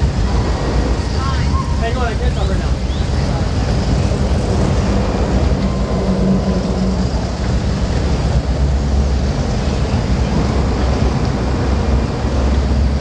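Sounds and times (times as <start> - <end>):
boat engines running: 0.0 - 13.0.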